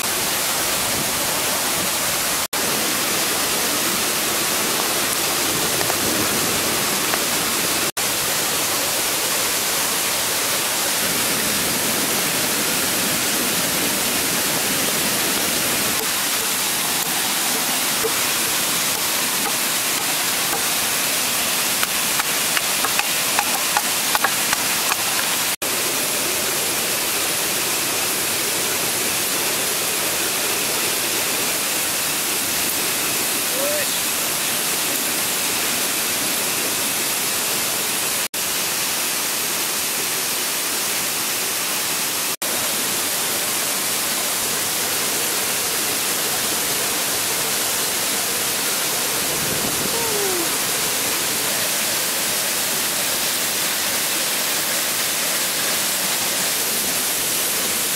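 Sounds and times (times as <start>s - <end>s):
rushing flowing water: 0.0s - 57.9s.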